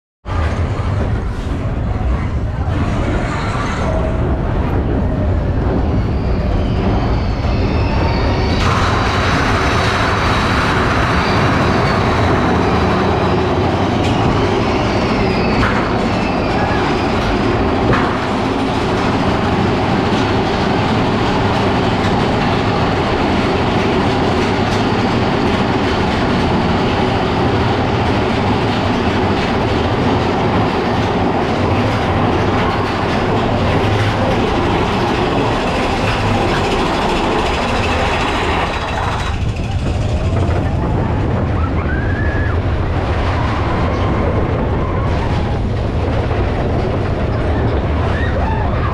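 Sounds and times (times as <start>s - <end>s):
roller coaster running on track: 0.2s - 48.9s.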